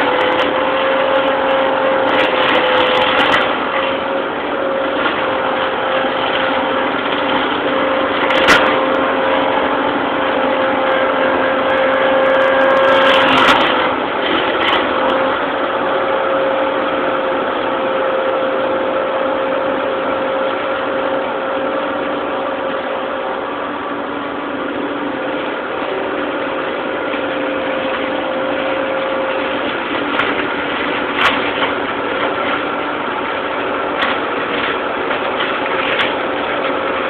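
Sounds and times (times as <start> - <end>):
flail mower cutting hedge: 0.0 - 37.0
tractor engine running: 0.0 - 37.0.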